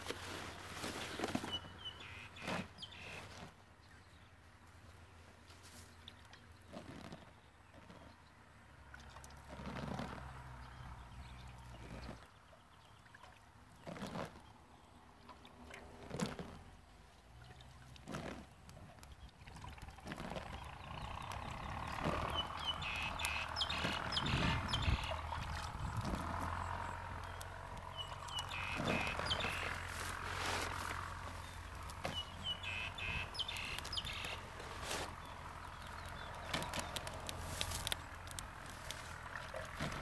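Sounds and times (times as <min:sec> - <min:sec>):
small birds chirping: 0:00.3 - 0:08.4, 0:09.2 - 0:40.0.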